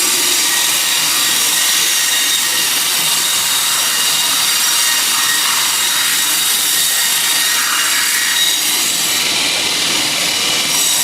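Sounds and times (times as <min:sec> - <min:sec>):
sawmill saw cutting log: 0:00.0 - 0:11.0.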